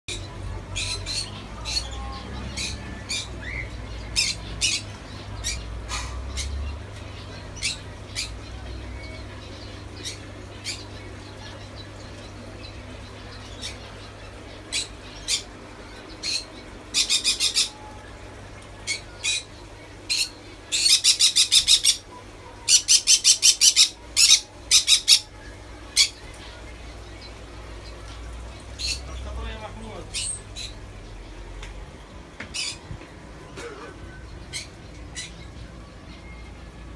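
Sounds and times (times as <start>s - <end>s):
songbirds chirping and trilling: 0.1s - 36.9s.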